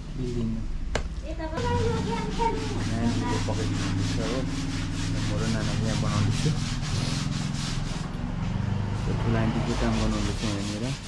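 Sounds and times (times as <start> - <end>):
steady low hum: 0.0 - 11.0
rhythmic scraping strokes: 1.5 - 11.0.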